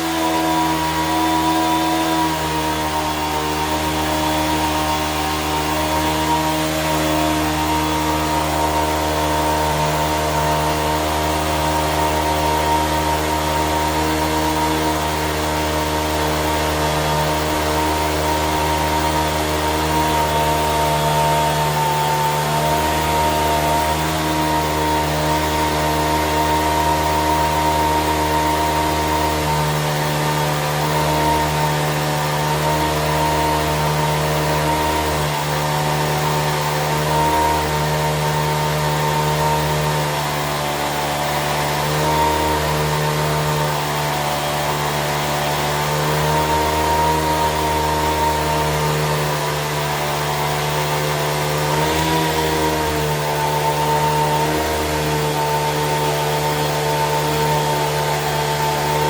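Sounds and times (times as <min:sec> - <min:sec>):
small electric motor whine: 0:00.0 - 0:59.0.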